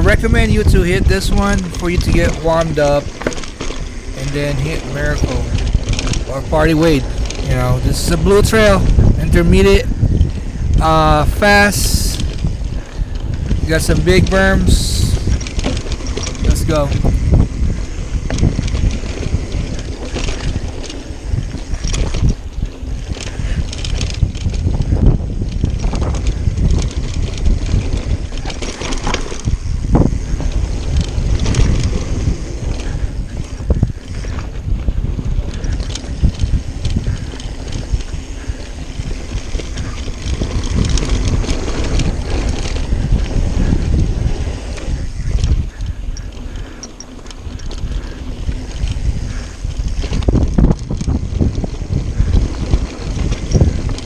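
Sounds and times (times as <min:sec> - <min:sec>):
bike rattles and clicks: 0:00.0 - 0:54.0
wind buffeting microphone: 0:00.0 - 0:54.0.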